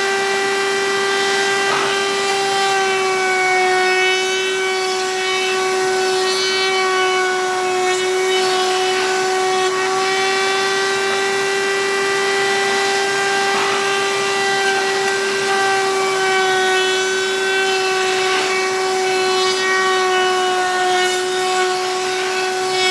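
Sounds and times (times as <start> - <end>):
wood cutting machine whine: 0.0 - 22.9.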